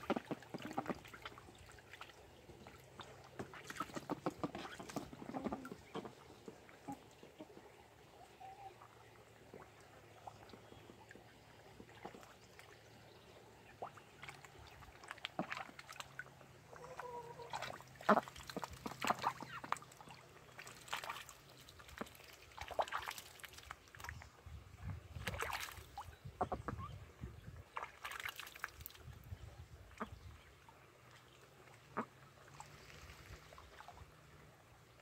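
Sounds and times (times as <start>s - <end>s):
ducks splashing in water: 0.0s - 24.3s, 25.1s - 26.8s, 27.6s - 29.2s, 29.8s - 35.0s.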